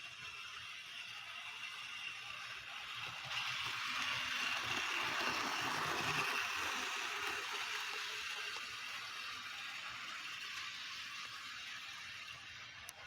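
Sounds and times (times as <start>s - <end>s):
model train whirring on track: 0.0s - 13.0s.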